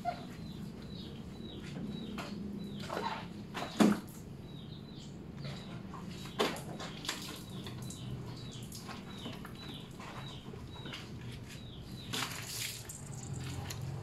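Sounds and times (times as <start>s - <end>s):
bird chirping: 0.0s - 3.8s, 4.4s - 14.0s.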